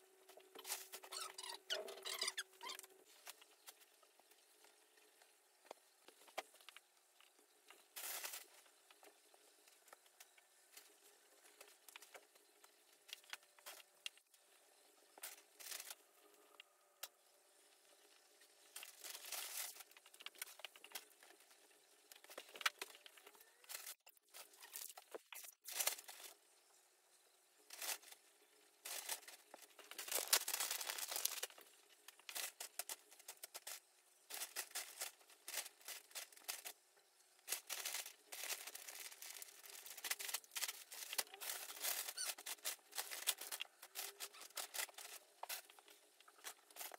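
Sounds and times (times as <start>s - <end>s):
crinkly material rustling: 0.3s - 14.2s, 15.1s - 16.6s, 18.4s - 26.4s, 27.7s - 36.8s, 37.4s - 46.9s.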